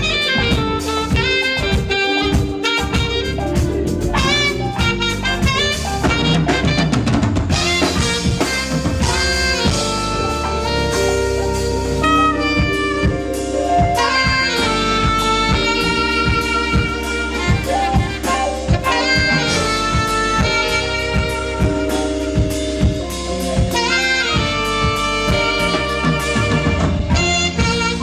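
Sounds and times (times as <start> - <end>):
bass: 0.0 - 28.0
drum-kit beat: 0.0 - 28.0
keyboard: 0.0 - 28.0
saxophone melody: 0.0 - 28.0.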